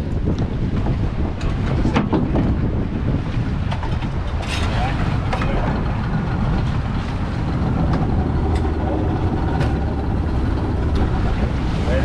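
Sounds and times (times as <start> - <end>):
motorboat engine droning: 0.6 - 12.0.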